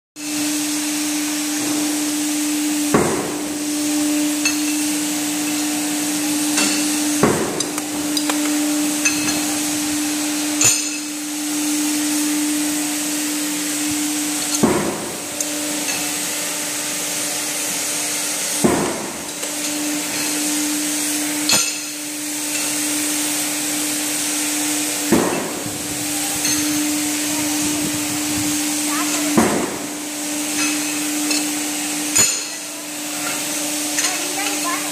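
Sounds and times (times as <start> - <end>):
machine motor humming: 0.2 - 34.9.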